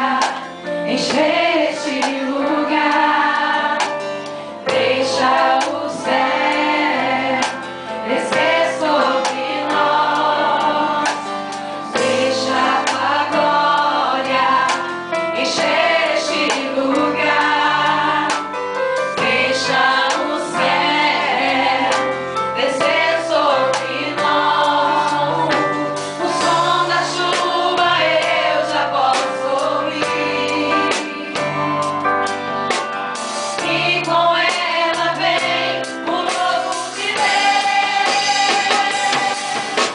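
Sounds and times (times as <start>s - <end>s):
choir singing gospel song: 0.0s - 32.0s, 33.3s - 39.9s
instrumental accompaniment: 0.0s - 39.9s.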